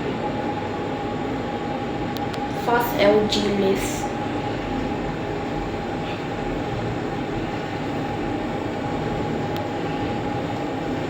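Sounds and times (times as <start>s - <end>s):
constant lift whine: 0.0s - 11.0s
lift rumble and air rush: 0.0s - 11.0s.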